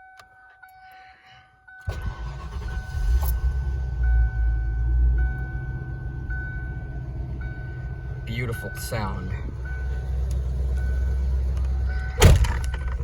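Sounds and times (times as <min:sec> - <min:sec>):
car engine cranking and idling: 0:01.8 - 0:13.0.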